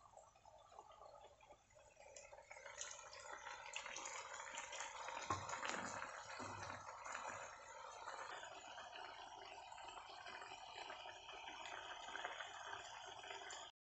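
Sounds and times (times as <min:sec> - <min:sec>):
thick sauce bubbling in pan: 0:00.0 - 0:13.7.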